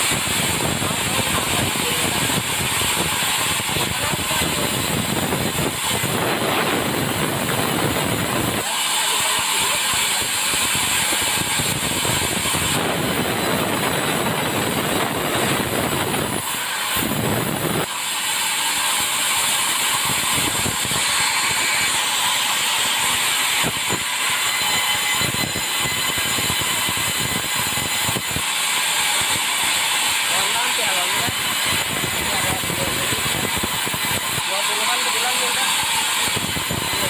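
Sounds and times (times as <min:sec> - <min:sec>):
saw cutting through log: 0:00.0 - 0:37.0.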